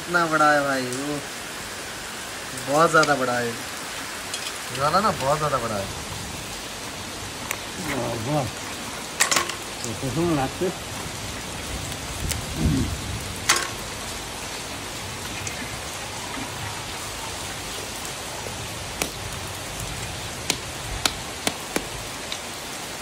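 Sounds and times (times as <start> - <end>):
steady rain-like hiss: 0.0 - 23.0.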